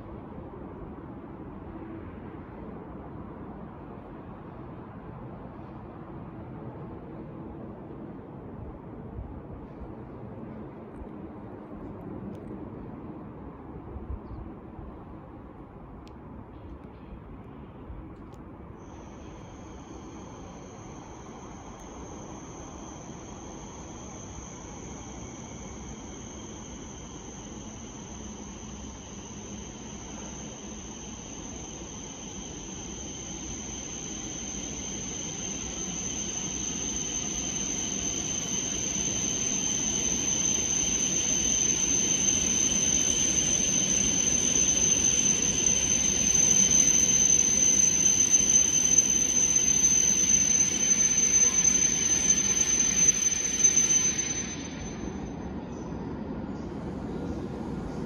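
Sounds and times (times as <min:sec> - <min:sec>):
train high whine: 0:00.0 - 0:58.0.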